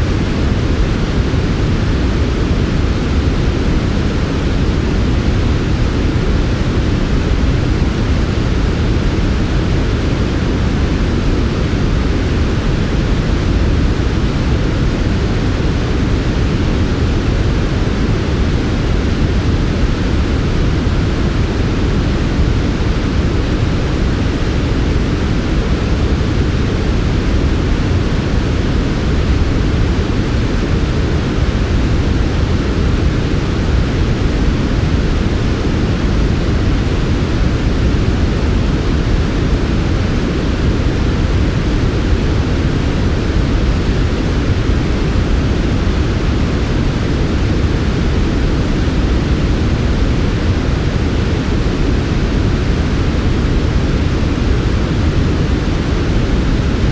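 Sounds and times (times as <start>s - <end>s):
white noise: 0.0s - 56.9s.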